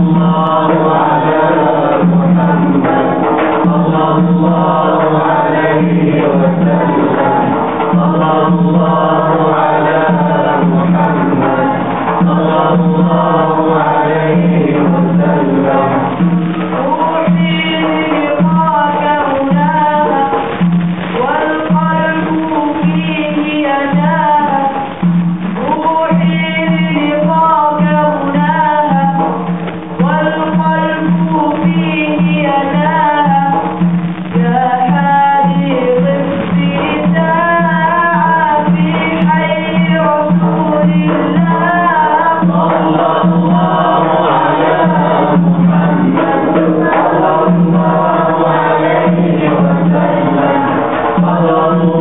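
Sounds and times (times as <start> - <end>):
backing music with pulsing beat: 0.0 - 52.0
man singing devotional melody: 0.0 - 52.0.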